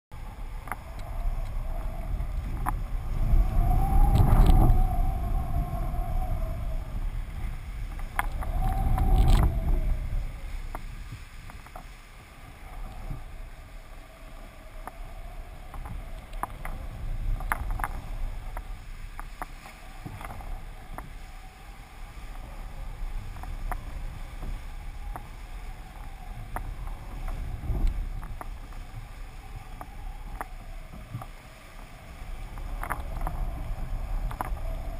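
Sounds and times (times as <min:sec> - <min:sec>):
wind rushing over camera: 0:00.1 - 0:34.9.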